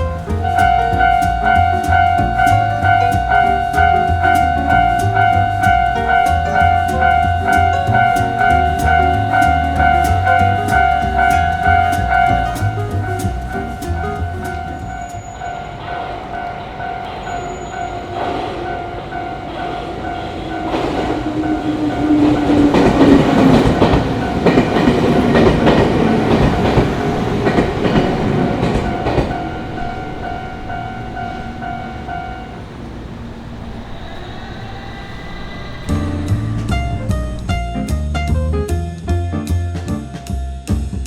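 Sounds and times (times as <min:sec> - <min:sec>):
level-crossing warning bell: 0:00.0 - 0:37.8
train wheel noise: 0:00.0 - 0:38.0.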